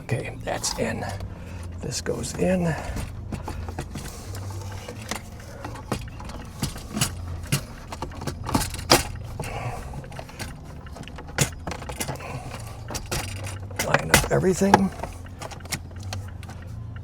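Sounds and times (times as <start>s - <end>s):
low steady hum: 0.0s - 17.0s
plastic trim clicks and rattles: 1.1s - 17.0s.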